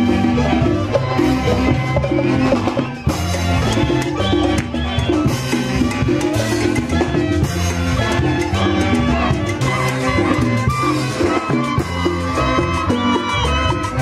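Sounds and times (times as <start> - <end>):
bass and drums beat: 0.0 - 14.0
live folk band playing: 0.0 - 14.0.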